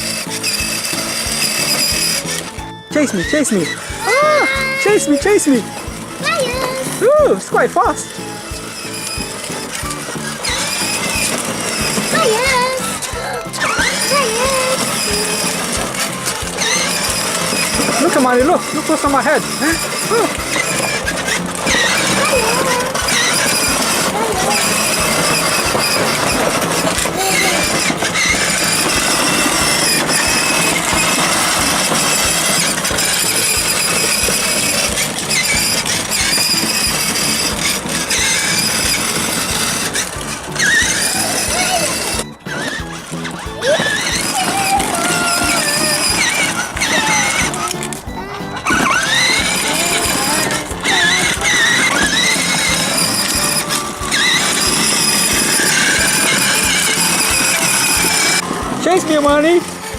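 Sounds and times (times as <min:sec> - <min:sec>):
continuous noisy rumble: 0:00.0 - 0:59.9
electric motor whining: 0:00.0 - 0:59.9
music with wavering melody: 0:00.0 - 0:59.9.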